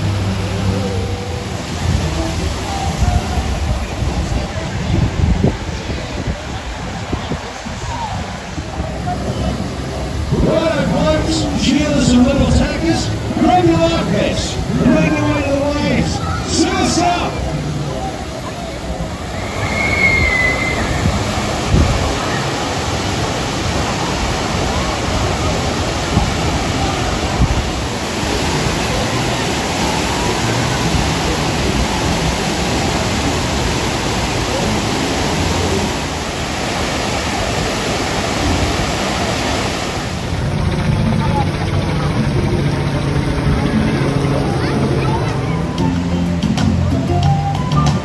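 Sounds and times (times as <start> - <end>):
water splashes: 0.0 - 47.1
waves washing over pool edge: 0.0 - 48.0.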